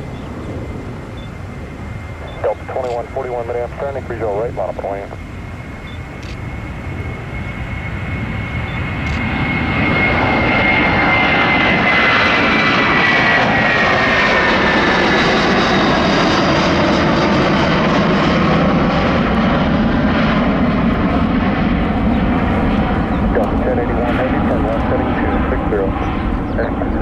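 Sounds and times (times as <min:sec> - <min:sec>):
high fan whine: 0:00.0 - 0:27.0
jet engines at takeoff thrust: 0:00.0 - 0:27.0.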